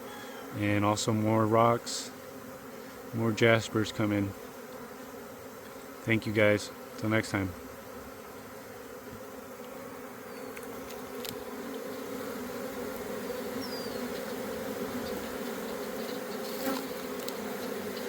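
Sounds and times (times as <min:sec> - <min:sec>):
honeybee swarm buzzing: 0:00.0 - 0:18.0.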